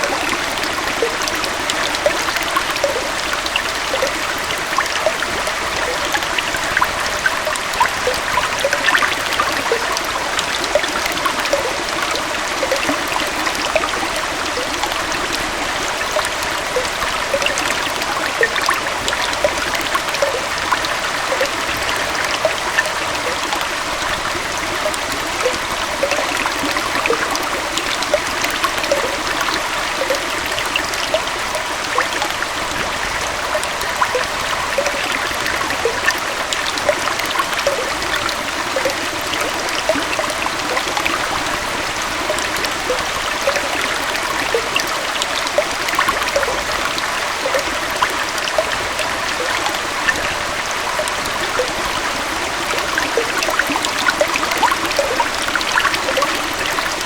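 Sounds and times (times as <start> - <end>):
waterfall and stream flowing: 0.0 - 57.0.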